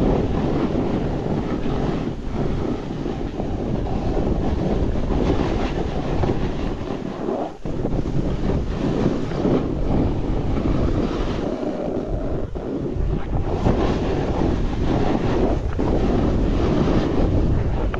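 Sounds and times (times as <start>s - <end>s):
snowboard carving on snow: 0.0s - 17.9s
wind on microphone: 0.0s - 17.9s.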